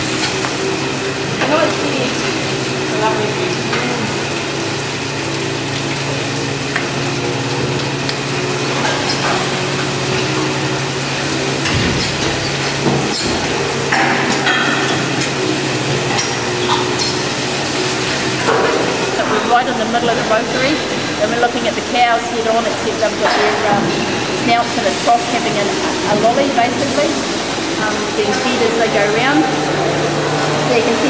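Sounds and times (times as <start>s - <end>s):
machinery humming: 0.0s - 31.0s
vacuum milking units hissing: 0.0s - 31.0s.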